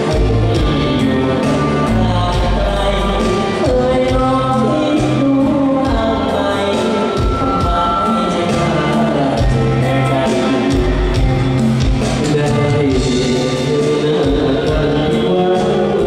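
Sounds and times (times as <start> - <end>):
live band with drums and bass: 0.0 - 16.0
male vocal group singing in harmony: 0.0 - 16.0.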